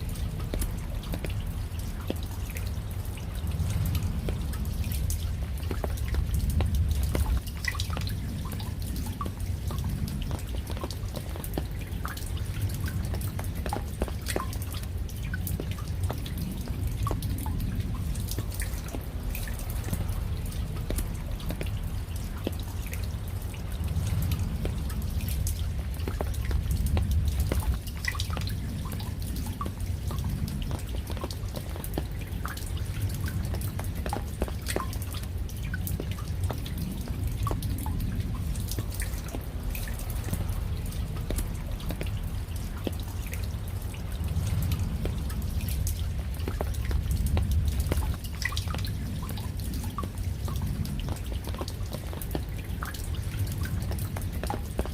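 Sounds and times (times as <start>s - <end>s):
low rumble: 0.0s - 54.9s
raindrops dripping and pattering: 0.0s - 54.9s.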